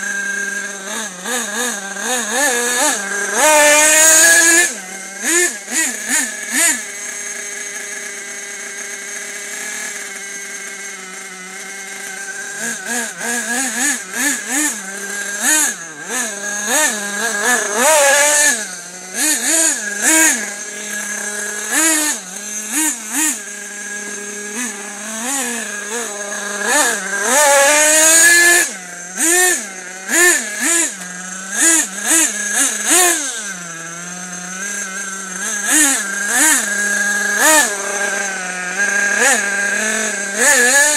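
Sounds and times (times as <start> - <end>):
small nitro engine revving: 0.0 - 40.9.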